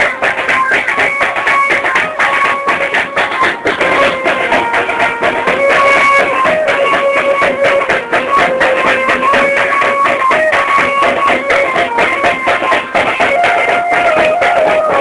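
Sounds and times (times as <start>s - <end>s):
melody over fast sharp beats: 0.0s - 15.0s.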